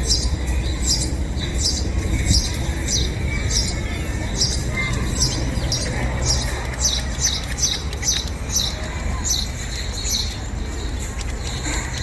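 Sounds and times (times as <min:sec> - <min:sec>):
bird chirping: 0:00.0 - 0:11.8
city traffic rumble: 0:00.0 - 0:12.0.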